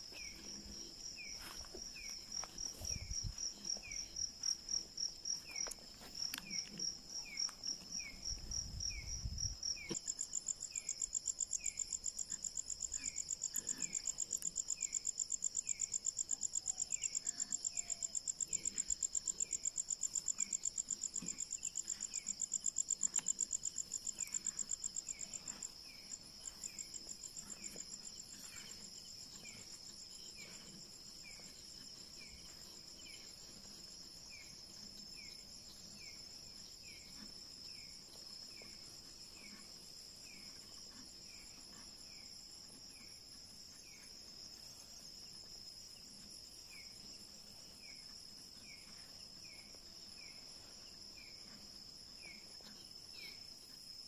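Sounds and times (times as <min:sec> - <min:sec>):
cricket chirping in fast pulses: 0:00.0 - 0:54.0.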